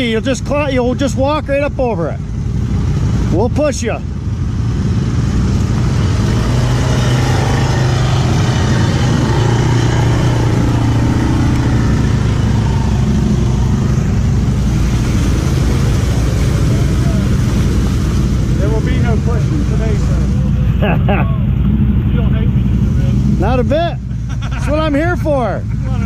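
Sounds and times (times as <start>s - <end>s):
quad engine running: 0.0s - 26.0s
water churning around wheels: 0.0s - 26.0s.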